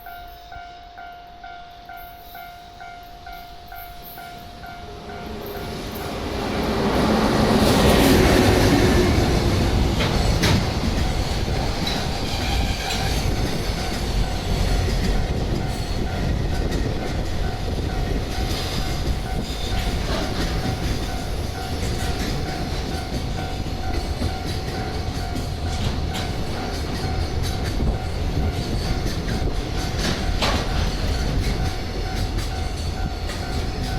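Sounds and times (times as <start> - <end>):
train wheels running over rails: 1.8 - 33.9.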